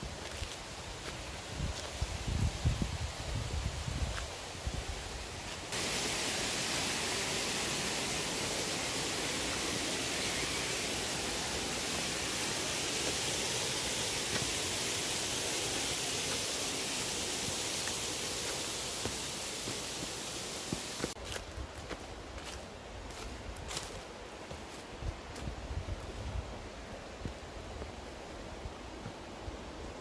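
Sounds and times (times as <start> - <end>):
footsteps on leafy dirt trail: 0.0 - 6.3, 8.6 - 29.4
steady rushing hiss: 0.0 - 30.0.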